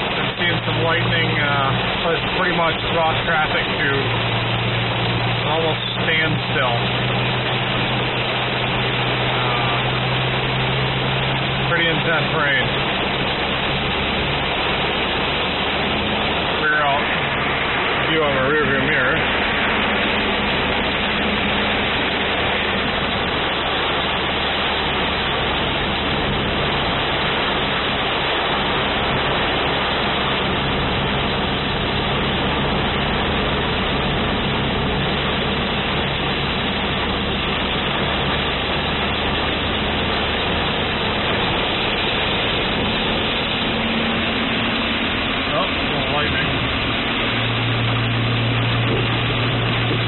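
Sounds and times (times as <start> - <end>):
car engine humming: 0.0 - 50.0
heavy rain on a car: 0.0 - 50.0.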